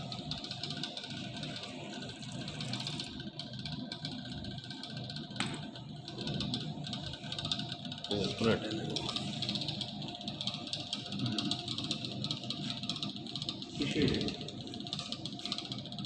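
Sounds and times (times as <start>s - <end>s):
laboratory equipment humming: 0.0s - 16.0s.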